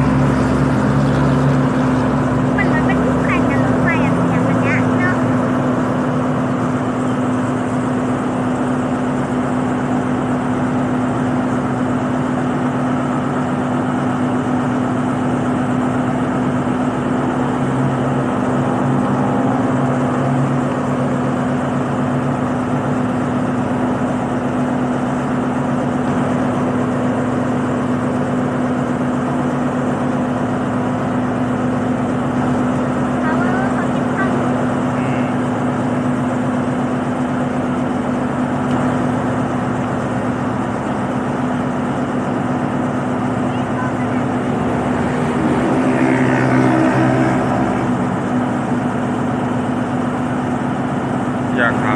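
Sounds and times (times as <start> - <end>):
diesel locomotive idling: 0.0 - 51.9.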